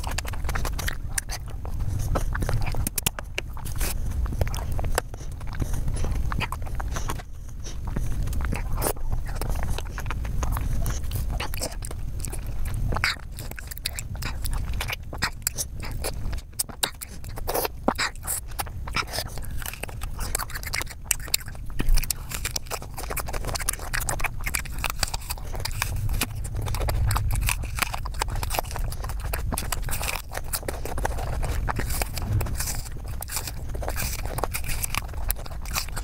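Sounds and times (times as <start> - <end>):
crisp bite into apple: 0.0 - 36.0
wet chewing of fruit: 0.0 - 36.0.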